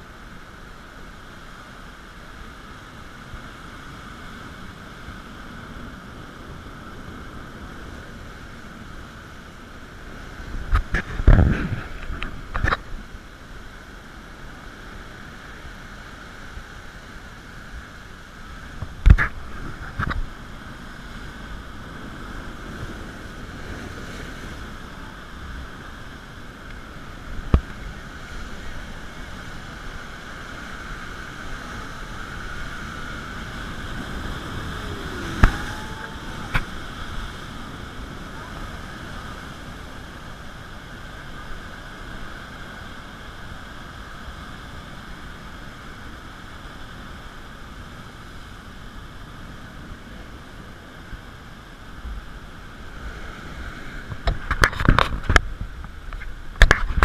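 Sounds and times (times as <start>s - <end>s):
surf washing over rocky shore: 0.0s - 57.0s.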